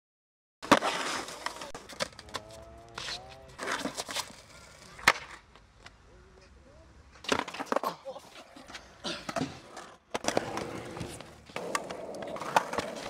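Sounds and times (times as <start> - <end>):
skateboard rolling on asphalt: 0.6 - 5.6, 7.3 - 13.0
skateboard clacking: 0.6 - 6.0, 7.2 - 13.0
skateboard slapping the ground: 0.6 - 6.0, 7.2 - 13.0.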